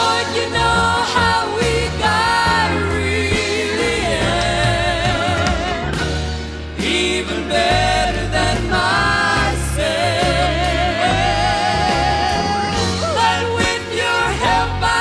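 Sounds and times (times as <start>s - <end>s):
steady bass accompaniment: 0.0s - 15.0s
vocal trio singing with vibrato: 0.0s - 15.0s.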